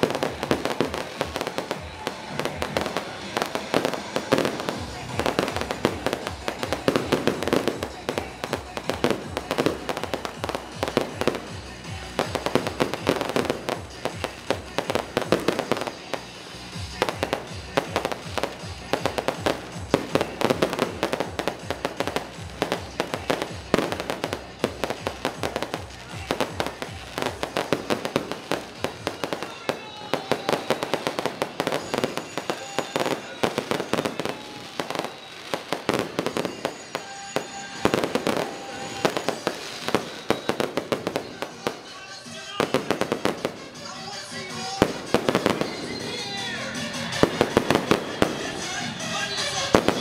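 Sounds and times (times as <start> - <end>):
fireworks bangs: 0.0 - 50.0
fireworks crackling: 0.0 - 50.0.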